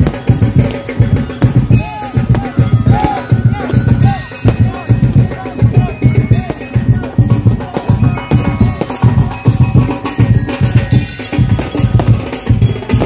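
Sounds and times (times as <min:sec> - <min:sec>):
drum-heavy dance music: 0:00.0 - 0:13.0.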